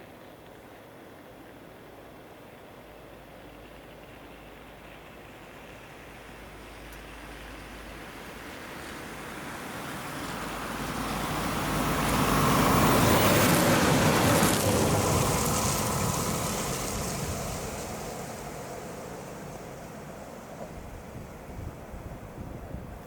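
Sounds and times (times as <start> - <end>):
train rumbling past: 1.3 - 23.0.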